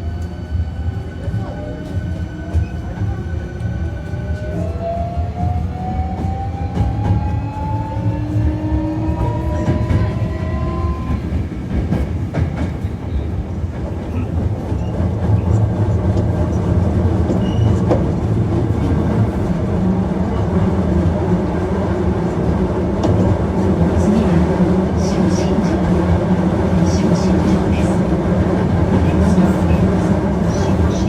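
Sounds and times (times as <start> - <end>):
wheels rumbling on rails: 0.1 - 31.0.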